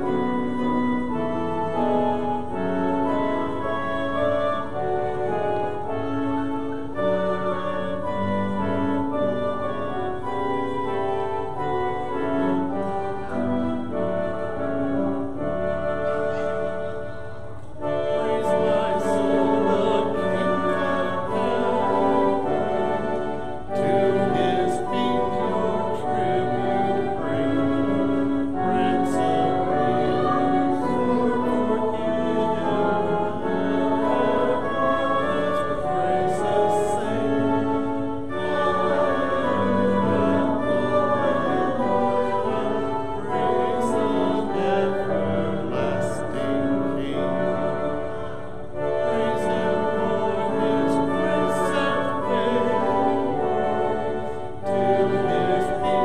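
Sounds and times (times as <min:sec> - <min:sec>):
congregation singing a hymn: 0:00.0 - 0:56.0
organ accompaniment: 0:00.0 - 0:56.0.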